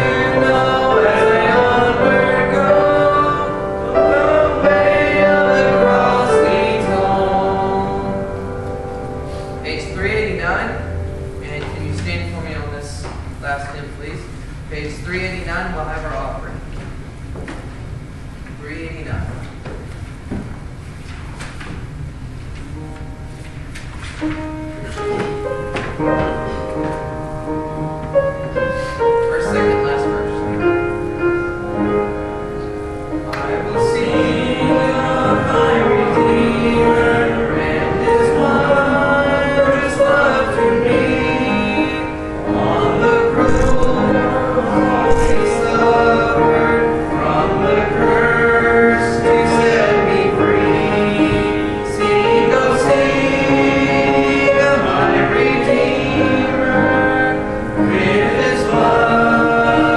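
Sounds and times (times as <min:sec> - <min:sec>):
congregation singing a hymn: 0:00.0 - 0:14.2, 0:22.7 - 0:59.9.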